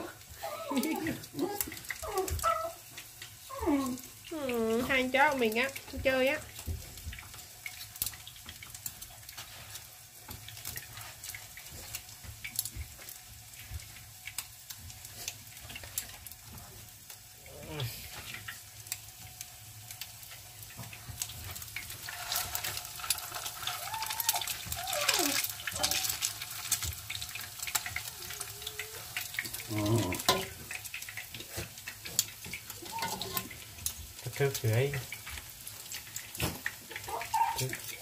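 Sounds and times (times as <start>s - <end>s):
fish cakes sizzling in oil: 0.0s - 38.0s.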